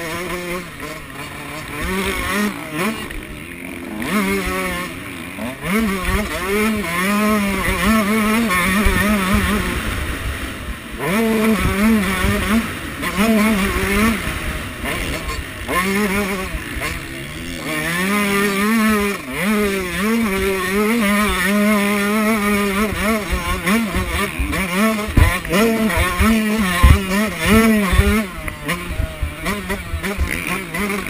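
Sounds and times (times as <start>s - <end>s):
pit bike engine revving: 0.0s - 31.0s.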